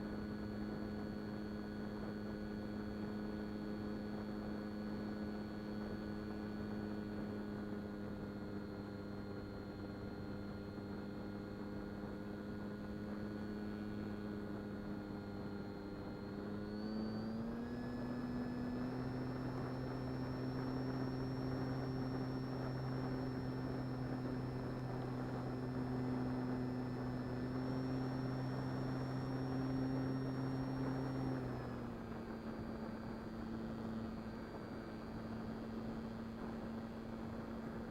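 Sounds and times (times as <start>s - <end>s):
electric model plane motor whine: 0.0s - 37.9s.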